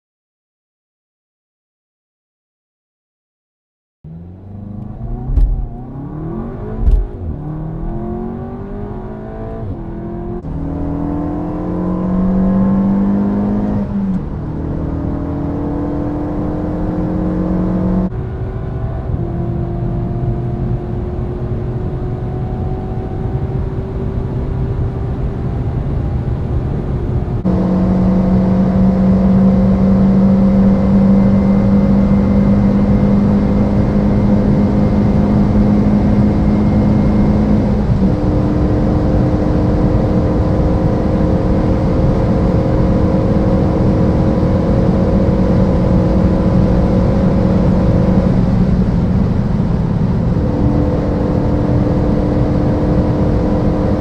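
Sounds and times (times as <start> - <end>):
car engine accelerating: 4.0 - 54.0.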